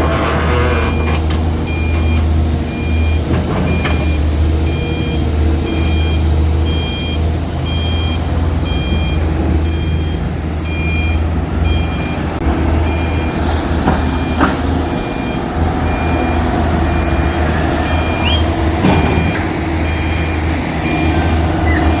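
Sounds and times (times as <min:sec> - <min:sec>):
diesel engine drone: 0:00.0 - 0:22.0
reversing alarm beeping: 0:00.0 - 0:22.0.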